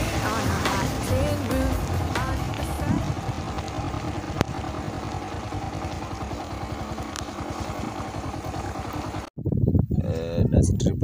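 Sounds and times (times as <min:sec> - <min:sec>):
wind and road noise hiss: 0:00.0 - 0:09.2
motorcycle engine running: 0:00.0 - 0:09.3.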